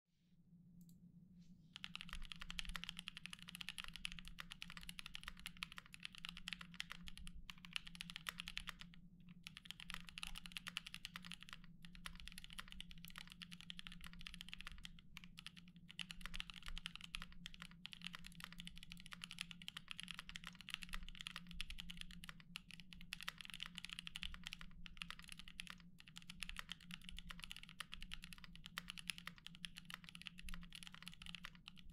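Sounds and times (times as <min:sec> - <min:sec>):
mechanical keyboard typing: 0:01.8 - 0:31.9.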